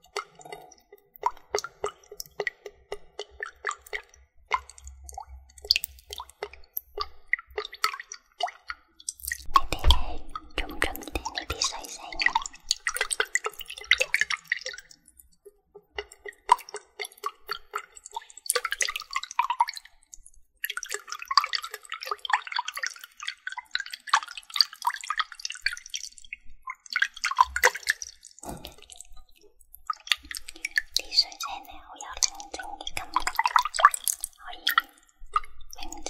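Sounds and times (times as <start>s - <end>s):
water dripping and splattering: 0.0s - 36.0s.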